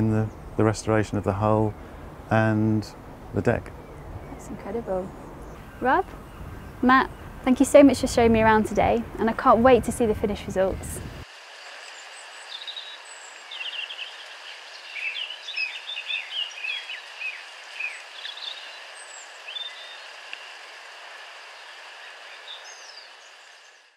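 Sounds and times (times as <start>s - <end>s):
small birds chirping: 0.0s - 20.3s, 21.4s - 23.9s
steady outdoor hiss: 0.0s - 23.9s.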